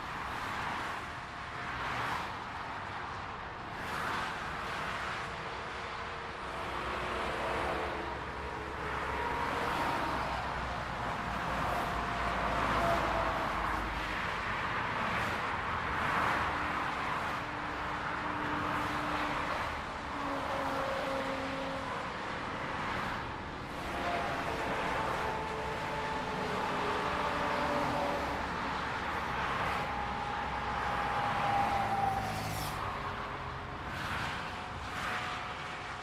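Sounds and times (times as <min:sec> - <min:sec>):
highway traffic passing: 0:00.0 - 0:36.0.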